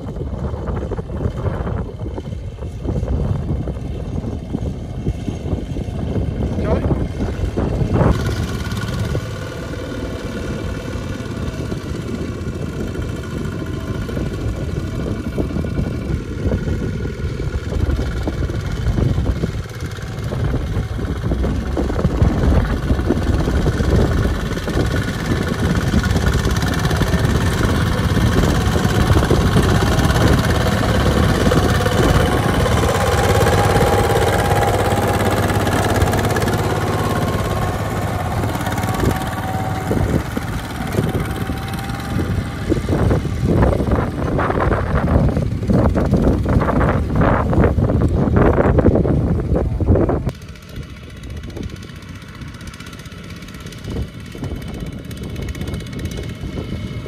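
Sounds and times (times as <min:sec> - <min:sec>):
diesel walking tractor engine: 0:00.0 - 0:57.0.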